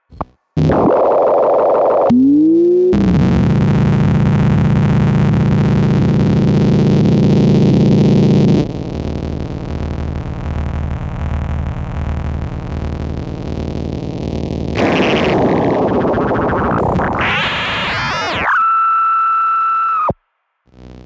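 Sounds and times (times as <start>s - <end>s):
electronic noise drone: 0.0s - 18.8s.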